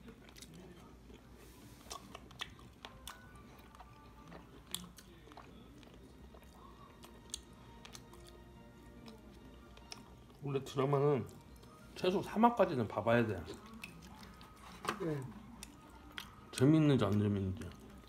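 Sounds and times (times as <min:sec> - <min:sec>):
chewing: 0:00.0 - 0:12.2, 0:13.2 - 0:18.0.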